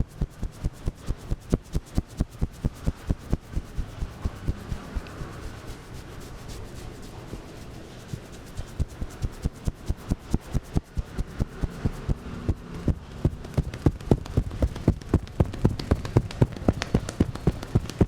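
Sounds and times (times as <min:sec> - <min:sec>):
hands slapping in massage strokes: 0:00.0 - 0:18.0.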